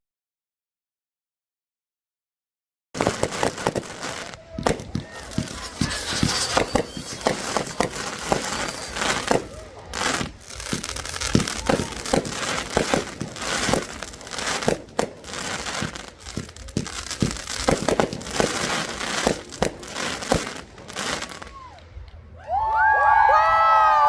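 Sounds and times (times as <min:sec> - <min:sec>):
fireworks popping and crackling: 0:03.0 - 0:22.2.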